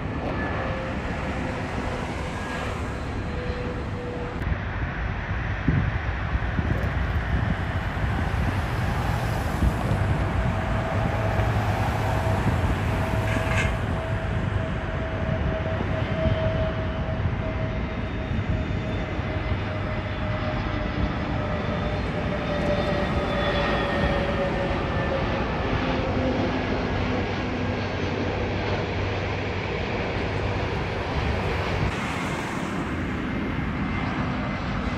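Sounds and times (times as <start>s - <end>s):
jet engine whine: 0.0s - 34.9s
jet engines rumbling: 0.0s - 34.9s.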